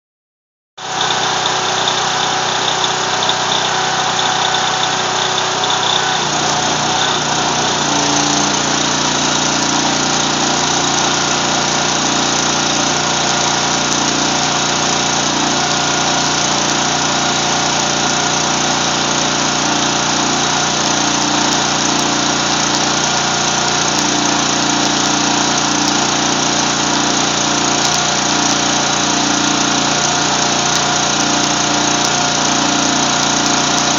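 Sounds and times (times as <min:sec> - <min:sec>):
engine-driven welder running: 0:00.8 - 0:33.9.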